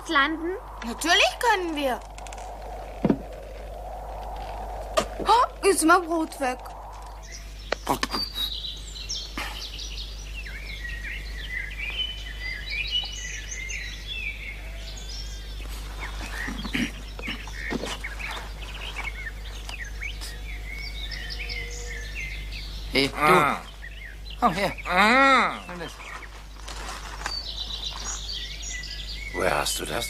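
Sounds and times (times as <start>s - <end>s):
steady low hum: 0.0s - 29.8s
birds chirping and singing: 0.0s - 30.0s.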